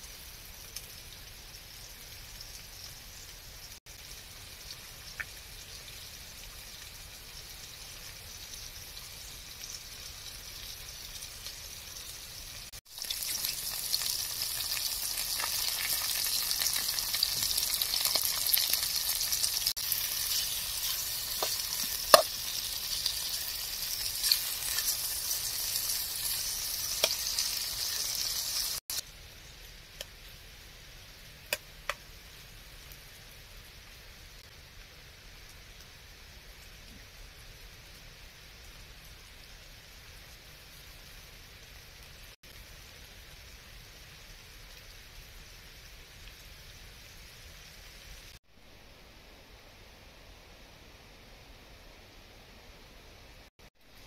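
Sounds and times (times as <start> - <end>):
food sizzling in hot oil: 0.0 - 48.4.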